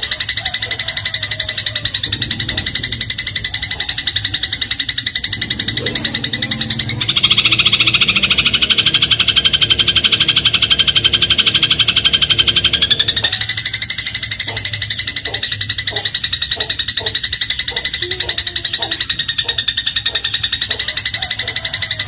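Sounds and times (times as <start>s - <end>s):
sparrow chattering trill: 0.0s - 22.0s.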